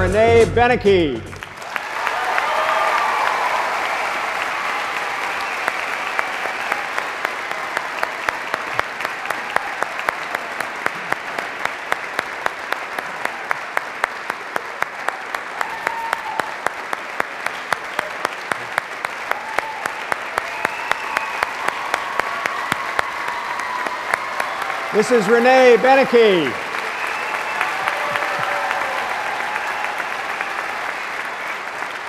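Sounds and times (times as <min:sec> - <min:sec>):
people cheering: 0:01.2 - 0:32.0
audience applauding: 0:01.3 - 0:32.0.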